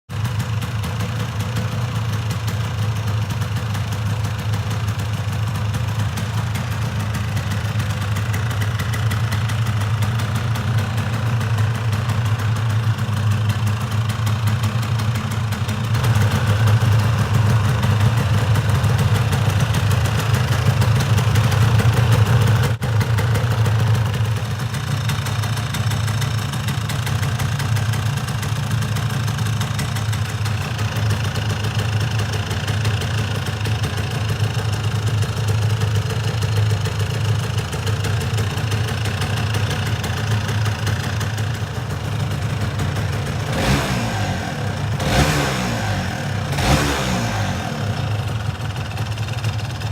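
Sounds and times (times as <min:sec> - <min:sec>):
two-stroke motorcycle engine idling: 0:00.1 - 0:49.9.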